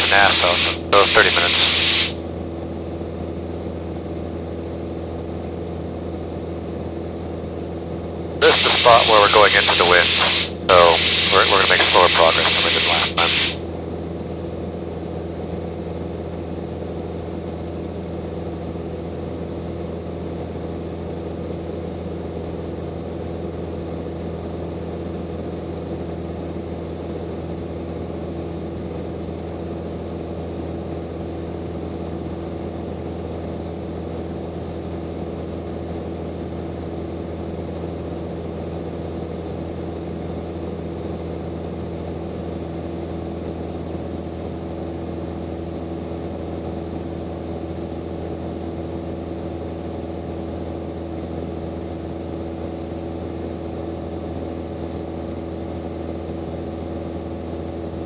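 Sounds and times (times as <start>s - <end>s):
light aircraft cabin drone: 0.0s - 58.0s.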